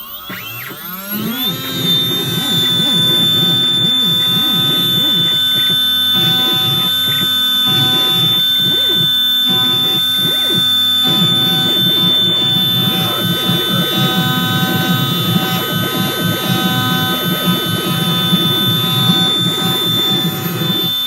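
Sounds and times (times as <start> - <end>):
axis motors whirring: 0.0 - 21.0
spindle high-pitched whine: 0.0 - 21.0.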